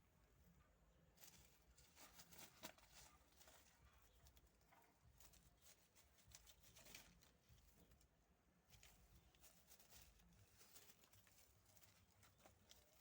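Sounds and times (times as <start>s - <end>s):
kittens tapping and scratching: 1.2s - 13.0s.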